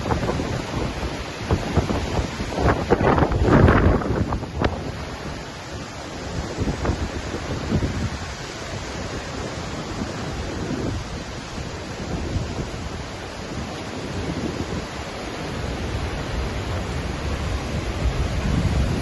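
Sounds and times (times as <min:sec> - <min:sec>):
waterfall rushing: 0:00.0 - 0:19.0
wind rumble on microphone: 0:00.0 - 0:19.0.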